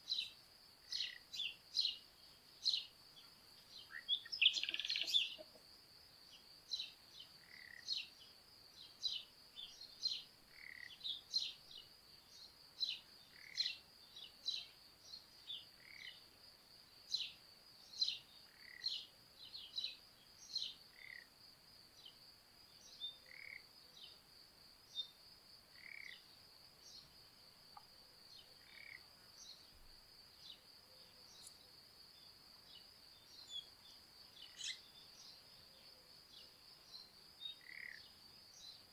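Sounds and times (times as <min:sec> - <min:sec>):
crickets trilling: 0:00.0 - 0:38.9
songbirds chirping: 0:00.0 - 0:38.9.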